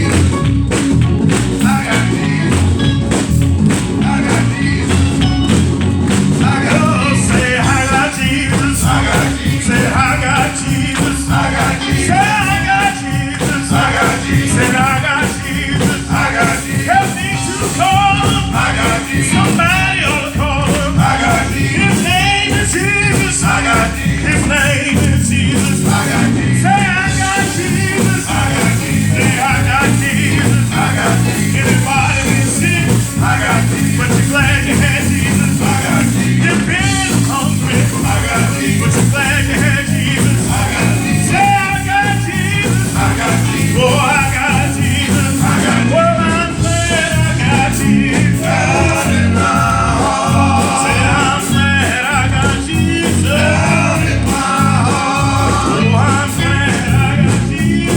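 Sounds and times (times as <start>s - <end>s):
band playing with steady beat: 0.0s - 57.9s
voices singing: 0.0s - 57.9s.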